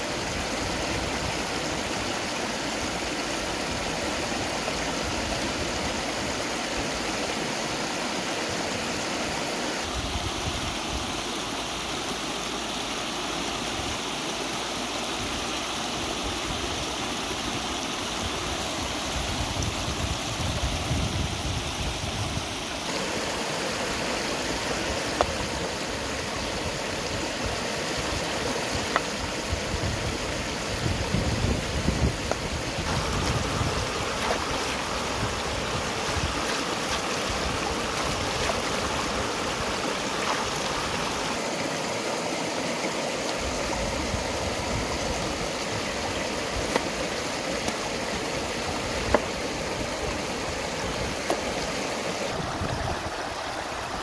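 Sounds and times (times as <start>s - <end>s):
river rushing over stones: 0.0s - 54.0s.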